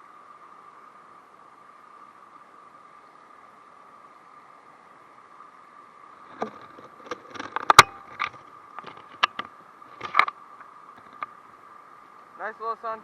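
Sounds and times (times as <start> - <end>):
spillway water rushing: 0.0 - 13.0.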